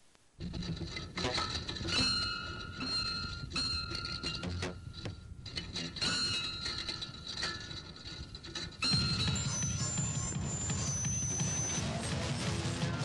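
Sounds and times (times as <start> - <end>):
steady high tones: 0.5 - 13.0.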